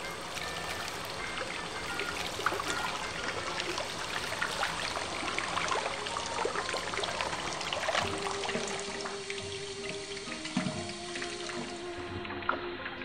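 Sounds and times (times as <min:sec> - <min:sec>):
water running from a tap: 0:00.0 - 0:12.6
water splashing over hands: 0:00.0 - 0:12.9.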